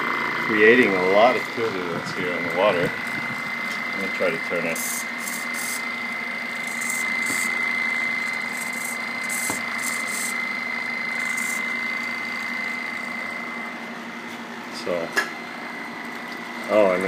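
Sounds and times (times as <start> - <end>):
electric motor high-pitched whine: 0.0 - 17.0.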